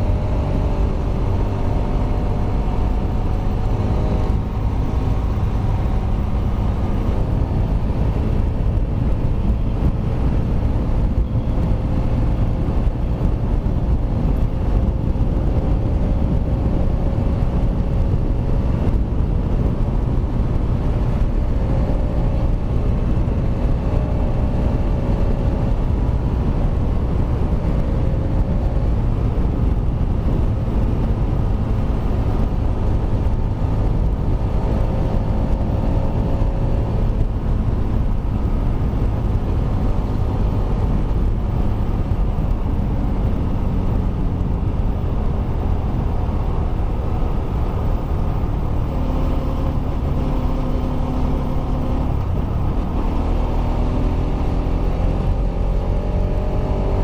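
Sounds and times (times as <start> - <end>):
motorcycle engine rumbling: 0.0 - 57.0.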